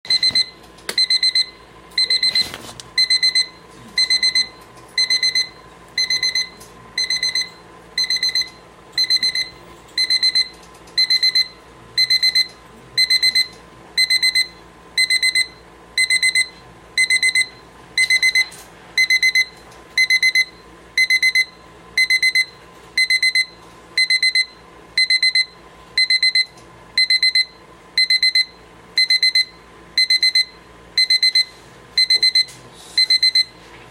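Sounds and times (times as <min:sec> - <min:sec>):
alarm clock beeping: 0:00.1 - 0:33.6.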